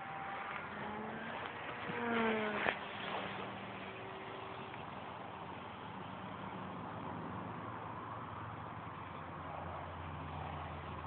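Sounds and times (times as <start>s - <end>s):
distant model plane motor drone: 0.0s - 11.0s.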